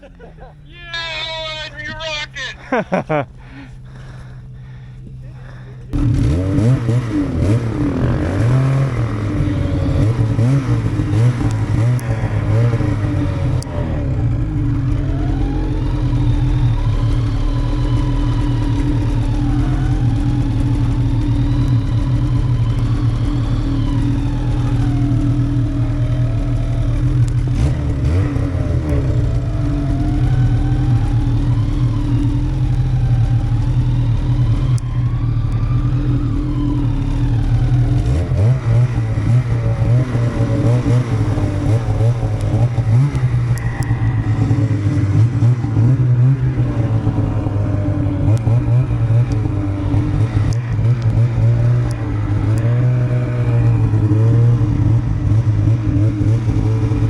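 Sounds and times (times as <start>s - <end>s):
snowmobile engines revving: 0.0s - 22.4s, 23.0s - 57.0s.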